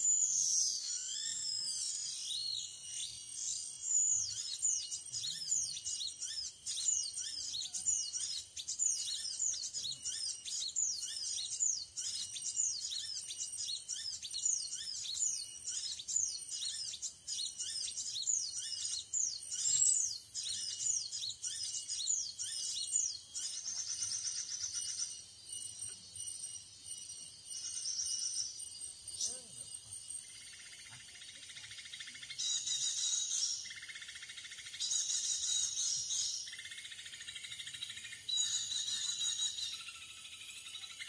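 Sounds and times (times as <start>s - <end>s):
recorded bird chirps from speaker: 0.0s - 41.0s.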